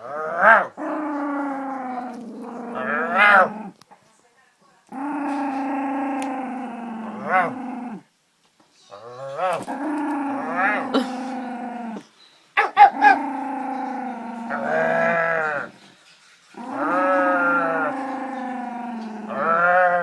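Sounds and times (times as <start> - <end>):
dog growling: 0.0 - 3.8, 4.9 - 8.1, 9.0 - 20.0.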